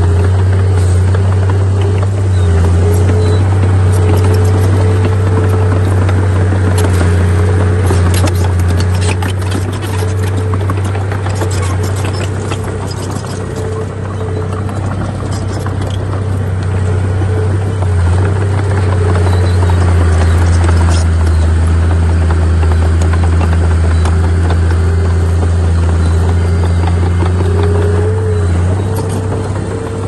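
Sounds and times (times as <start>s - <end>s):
heavy diesel engine droning: 0.0s - 30.0s
crackle: 0.1s - 30.0s.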